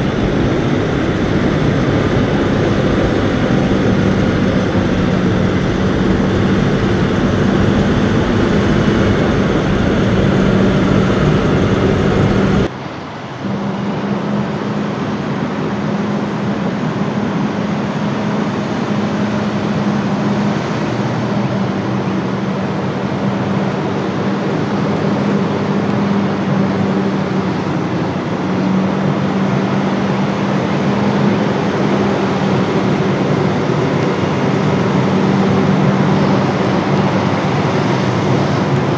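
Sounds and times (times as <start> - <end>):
truck engine and road drone: 0.0 - 38.9.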